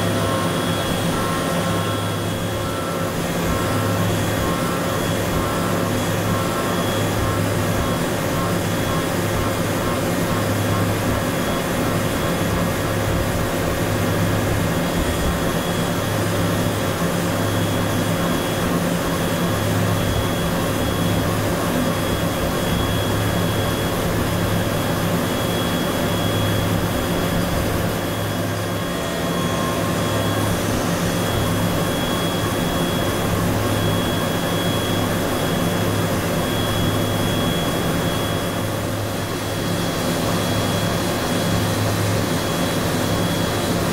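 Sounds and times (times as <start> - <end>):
milling machine hum: 0.0 - 43.9
thin high whine: 0.0 - 43.9.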